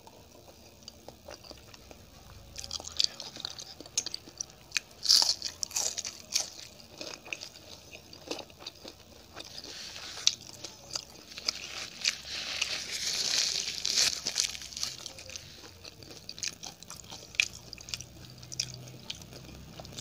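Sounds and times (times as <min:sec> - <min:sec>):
person chewing crisp food: 0:00.0 - 0:20.0.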